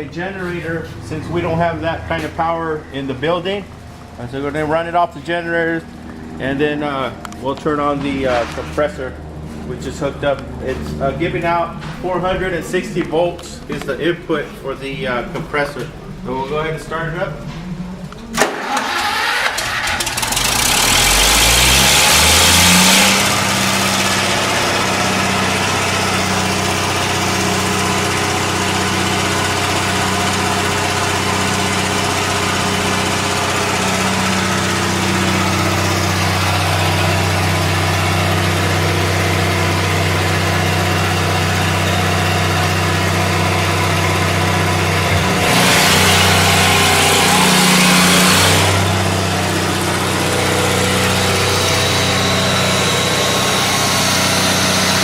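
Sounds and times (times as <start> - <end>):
air compressor humming: 0.0 - 55.0.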